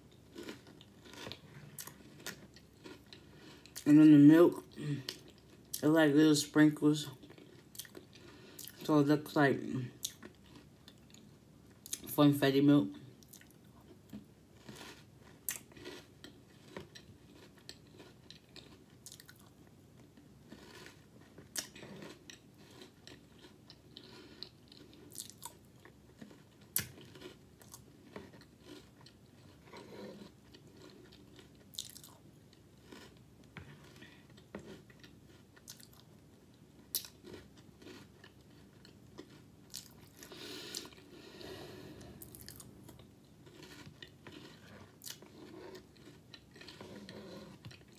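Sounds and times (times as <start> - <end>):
person chewing crunchy cereal: 0.0 - 12.1, 13.2 - 47.9.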